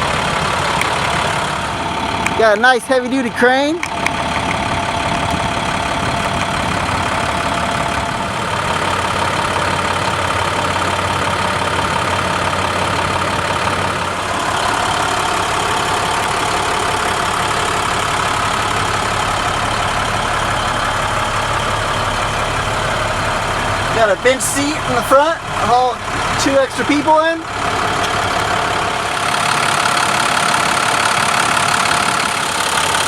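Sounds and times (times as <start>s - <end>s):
truck engine idling: 0.0s - 33.0s
whining tone: 0.0s - 33.0s.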